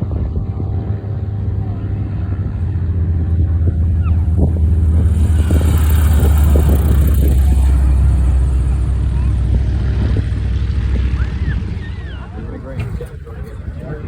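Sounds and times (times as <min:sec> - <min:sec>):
propeller plane engine rumbling: 0:00.0 - 0:14.0.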